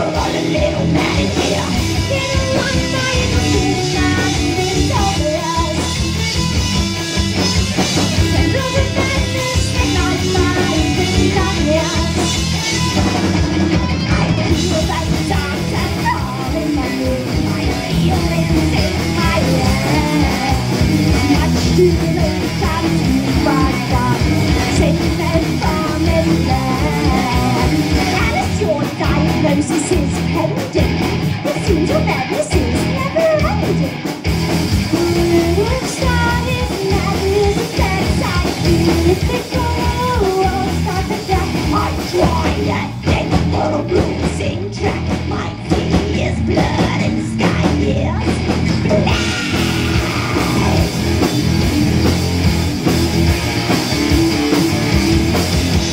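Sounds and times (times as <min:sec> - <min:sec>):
woman singing: 0:00.0 - 0:06.2, 0:08.1 - 0:12.8, 0:13.8 - 0:33.9, 0:34.9 - 0:50.9
bass guitar: 0:00.0 - 0:55.9
drum kit: 0:00.0 - 0:55.9
electric guitars: 0:00.0 - 0:55.9.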